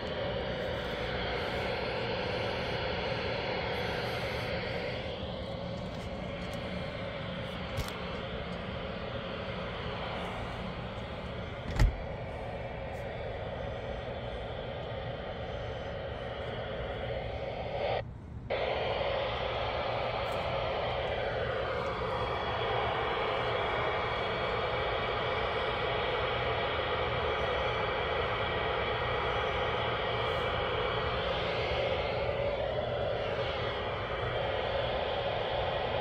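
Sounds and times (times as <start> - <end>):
radio static hiss: 0.0 - 36.0.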